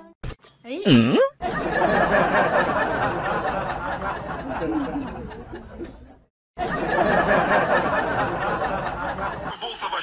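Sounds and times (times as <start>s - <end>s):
crowd chattering: 1.5s - 10.0s.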